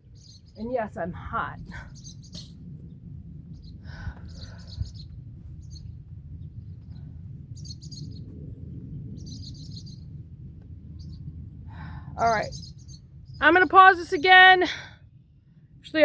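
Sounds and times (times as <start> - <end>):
birds chirping: 0.0 - 11.4, 12.0 - 16.0
low rumble: 0.0 - 14.2.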